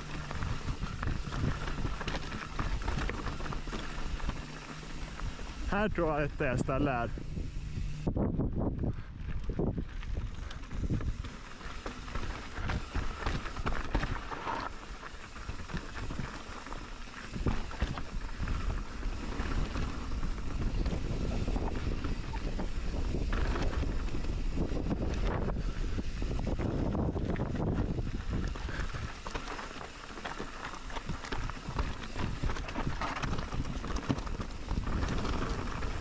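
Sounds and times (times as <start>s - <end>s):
bike knocking and rattling: 0.0s - 6.2s, 6.8s - 36.0s
wind buffeting microphone: 0.0s - 14.4s, 15.1s - 29.9s
bike tyres rumbling on dirt: 0.0s - 36.0s.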